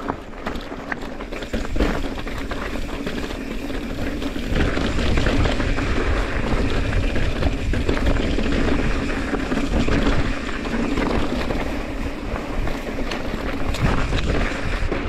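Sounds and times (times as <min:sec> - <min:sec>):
bike rattling over bumps: 0:00.0 - 0:15.0
bike tyres crunching over stones: 0:00.0 - 0:15.0
wind buffeting microphone: 0:00.0 - 0:15.0.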